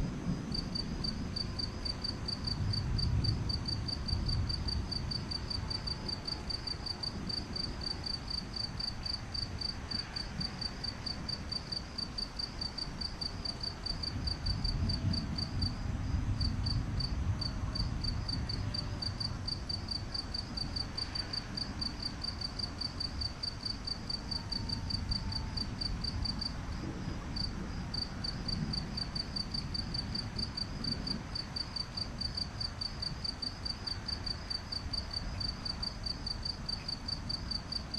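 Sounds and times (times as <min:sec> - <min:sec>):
cricket chirping: 0:00.0 - 0:37.9.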